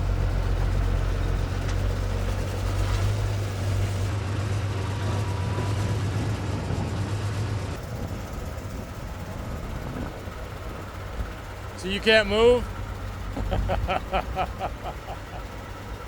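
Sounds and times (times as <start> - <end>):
machinery engine deep hum: 0.0 - 16.0.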